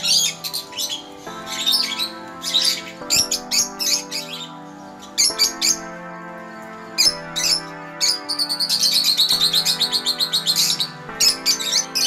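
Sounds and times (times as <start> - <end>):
background music of sustained chords: 0.0 - 12.0
birds chirping: 0.0 - 12.0.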